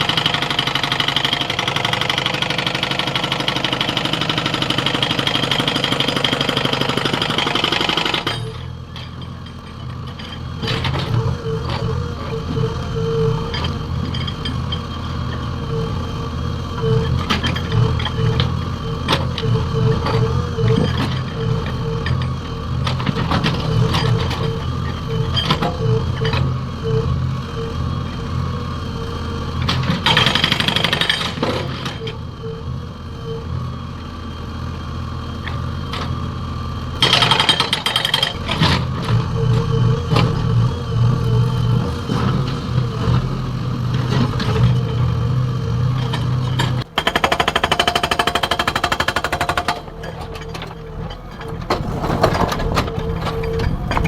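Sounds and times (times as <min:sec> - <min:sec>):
hydraulic breaker hammering: 0:00.0 - 0:26.5, 0:29.7 - 0:32.2, 0:37.0 - 0:54.0
diesel engine under load: 0:00.0 - 0:54.0.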